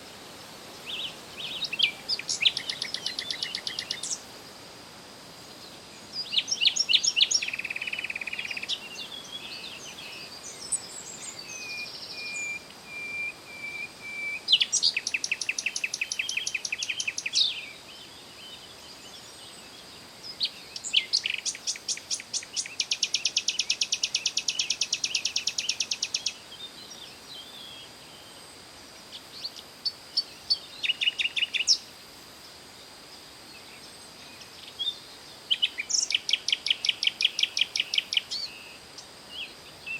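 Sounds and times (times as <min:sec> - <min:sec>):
songbirds chirping and trilling: 0:00.0 - 0:04.3, 0:05.2 - 0:39.9.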